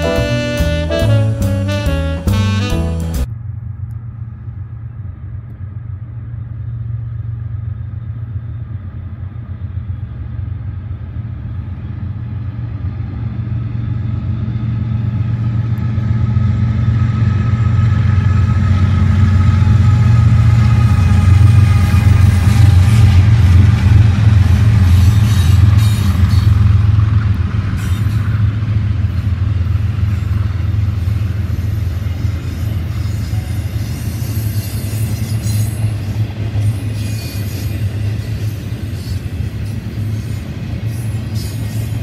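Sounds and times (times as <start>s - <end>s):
locomotive engine drone: 0.0s - 37.0s.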